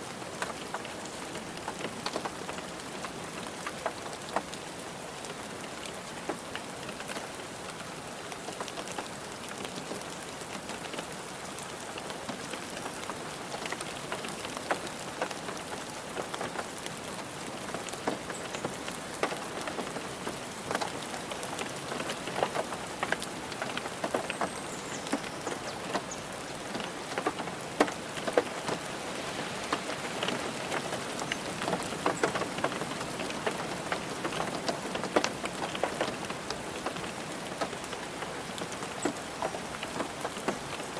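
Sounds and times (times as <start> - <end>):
rain drumming on a car roof: 0.0 - 40.9.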